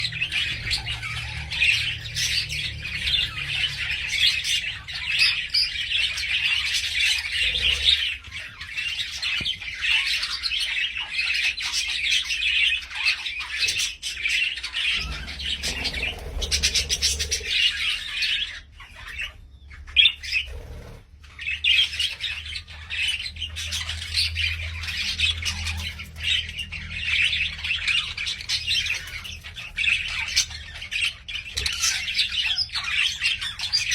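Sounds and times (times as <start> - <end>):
parrots chattering and squawking: 0.0 - 33.9.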